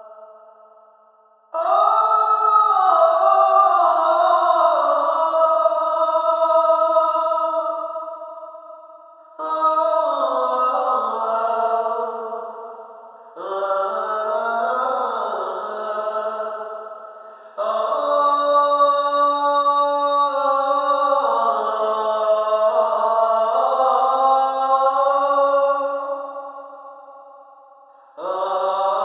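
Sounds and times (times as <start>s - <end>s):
chanted vocal with gliding phrases: 0.0s - 29.0s.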